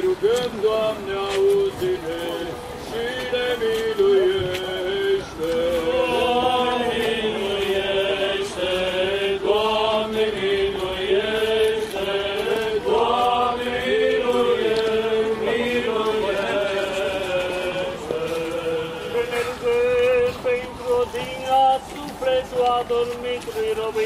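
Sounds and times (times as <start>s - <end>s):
voices chanting: 0.0s - 24.0s.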